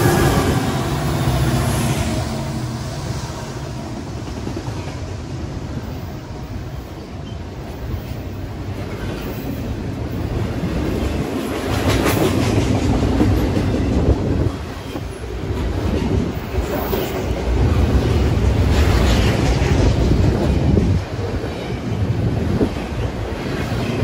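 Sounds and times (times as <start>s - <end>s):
train wheels rumbling on rails: 0.0s - 24.0s
clickety-clack over rail joints: 3.7s - 24.0s.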